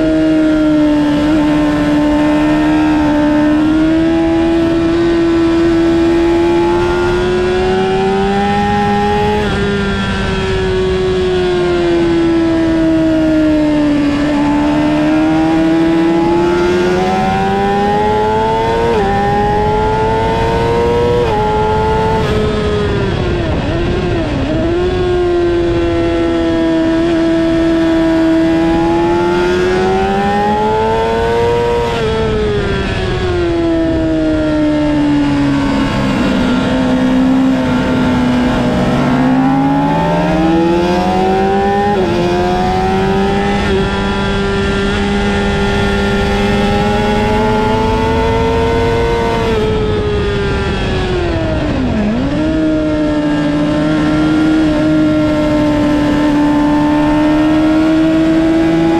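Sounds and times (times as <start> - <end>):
motorcycle engine at high revs: 0.0 - 58.9.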